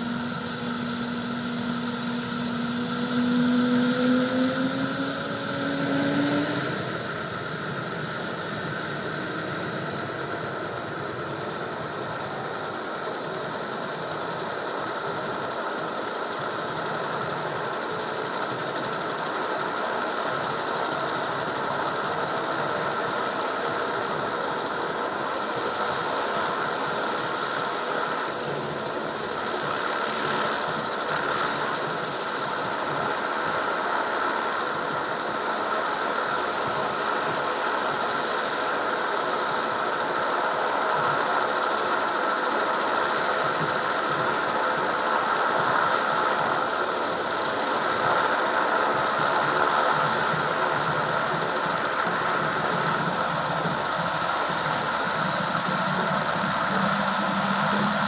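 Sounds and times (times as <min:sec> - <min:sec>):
helicopter engine and rotor running: 0:00.0 - 0:58.0.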